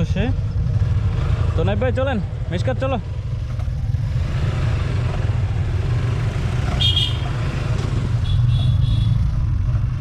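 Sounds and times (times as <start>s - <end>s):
motorcycle engine: 0.0s - 10.0s.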